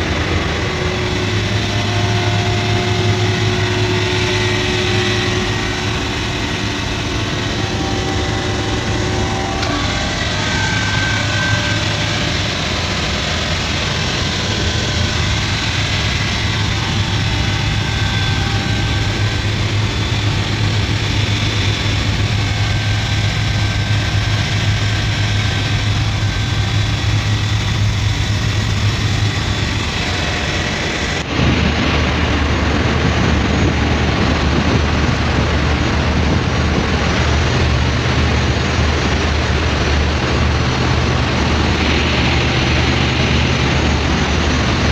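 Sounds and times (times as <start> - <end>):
diesel engine room drone: 0.0 - 44.9.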